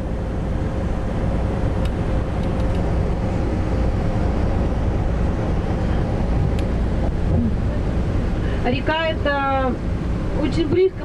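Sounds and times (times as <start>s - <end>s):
vehicle road noise rumble: 0.0s - 11.0s.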